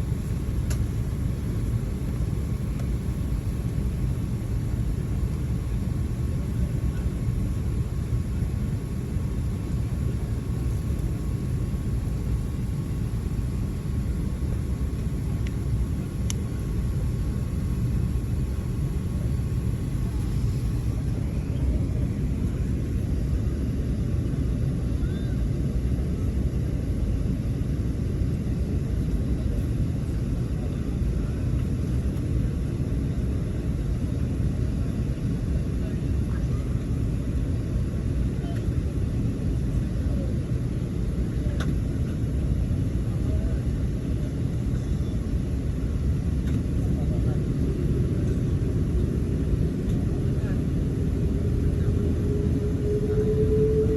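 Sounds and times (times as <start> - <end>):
airliner cabin rumble: 0.0 - 53.9.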